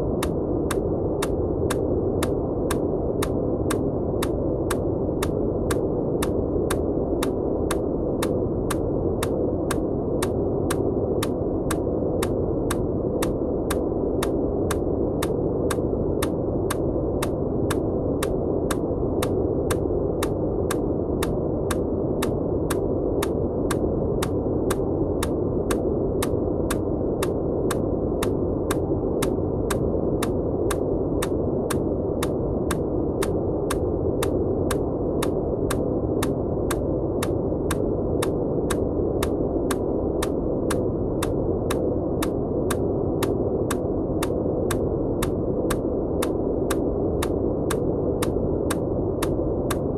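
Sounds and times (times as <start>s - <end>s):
muffled white noise hiss: 0.0s - 49.9s.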